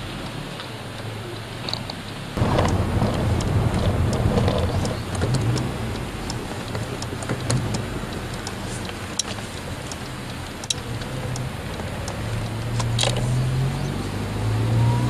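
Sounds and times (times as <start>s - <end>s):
road hiss: 0.0s - 15.0s
car engine from inside cabin: 0.2s - 15.0s.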